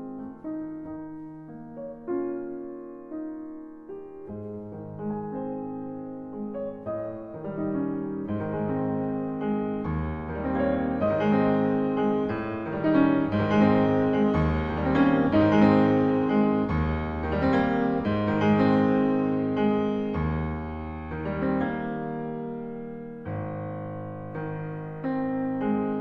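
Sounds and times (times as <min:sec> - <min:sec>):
piano chords with bass line: 0:00.0 - 0:26.0.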